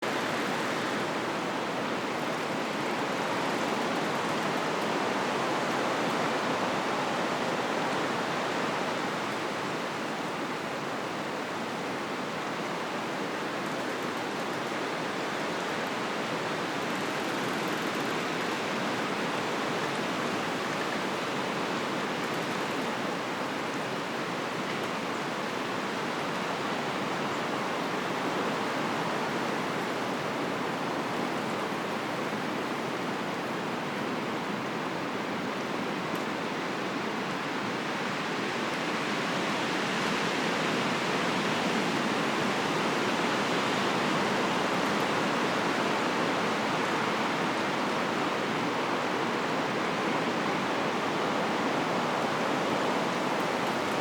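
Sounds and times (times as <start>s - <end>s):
wind rushing through trees: 0.0s - 54.0s.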